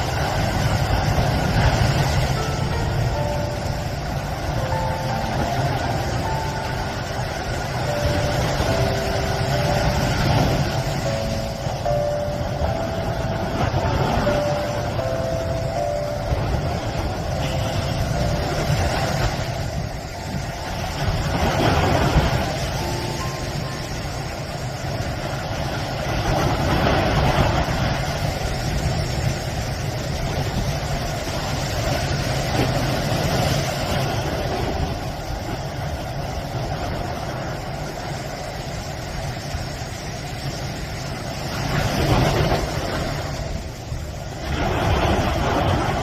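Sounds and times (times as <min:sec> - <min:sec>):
low wind rumble: 0:00.0 - 0:46.0
sea surf washing onto shore: 0:00.0 - 0:46.0.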